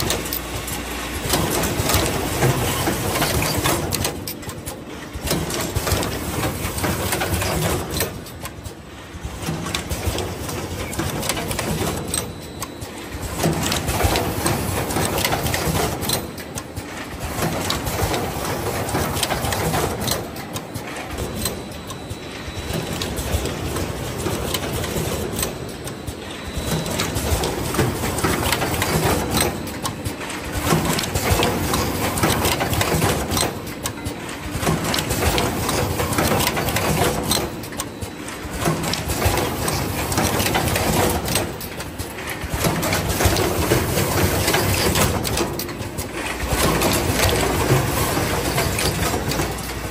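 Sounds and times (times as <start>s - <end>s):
pneumatic machine clicks and knocks: 0.0s - 22.0s, 22.6s - 49.9s
machine mechanical hum: 0.0s - 49.9s.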